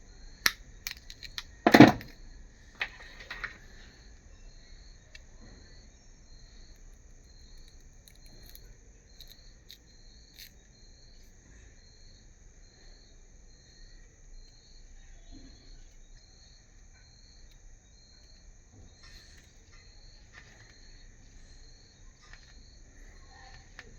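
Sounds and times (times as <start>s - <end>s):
cricket chirping: 0.0s - 23.9s.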